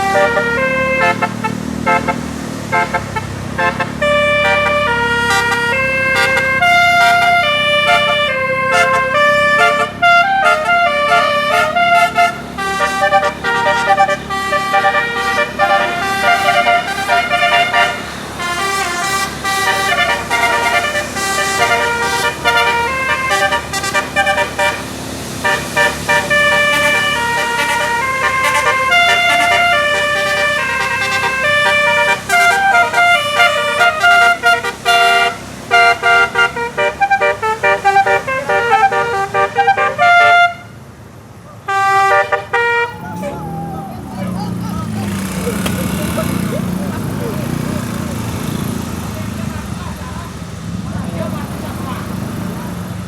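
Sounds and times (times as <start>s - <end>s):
musical air horn melody: 0.0s - 40.7s, 41.7s - 43.8s.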